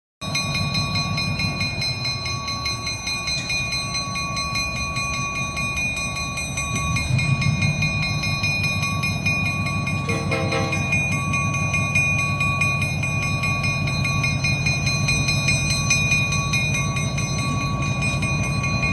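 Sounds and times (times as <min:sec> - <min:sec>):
diesel locomotive engine rumble: 0:00.2 - 0:18.9
steady high tone: 0:00.2 - 0:18.9.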